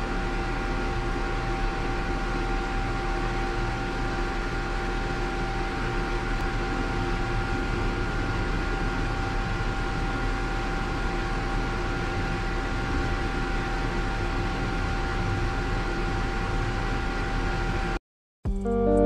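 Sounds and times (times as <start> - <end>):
ventilation blower whirring: 0.0 - 18.0.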